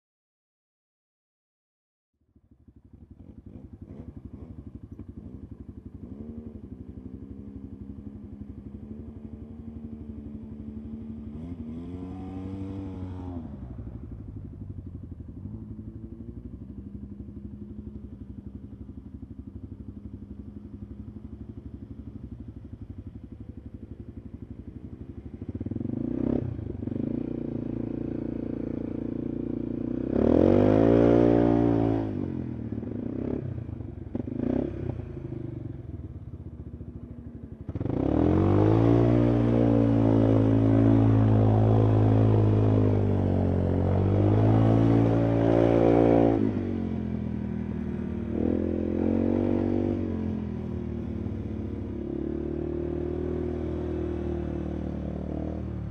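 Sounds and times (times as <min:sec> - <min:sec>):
atv engine revving: 0:02.8 - 0:55.9.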